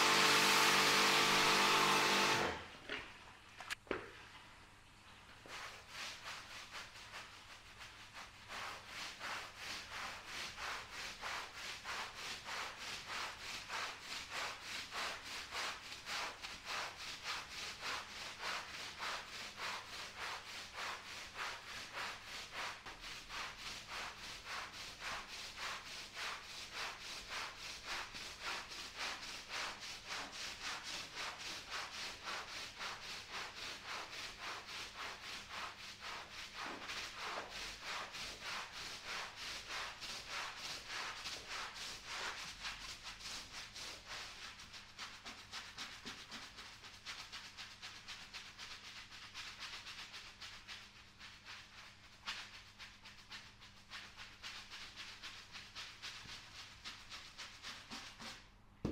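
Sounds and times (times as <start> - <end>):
brush scrubbing wet rug: 0.0 - 3.4, 5.2 - 58.9.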